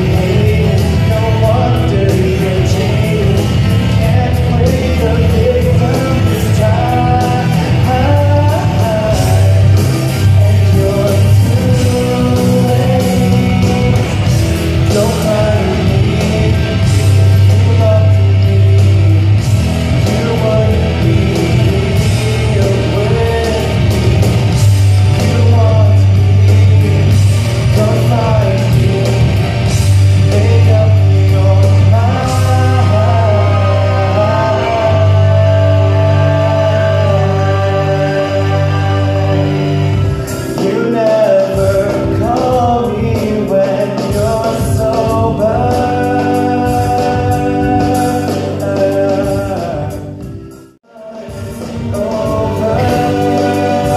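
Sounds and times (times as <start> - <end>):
man singing into microphone: 0.0 - 53.9
rock backing track: 0.0 - 53.9.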